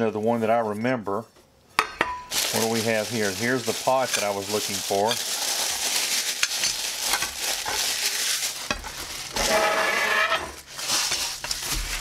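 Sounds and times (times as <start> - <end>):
tissue paper rustling and crinkling: 2.3 - 12.0.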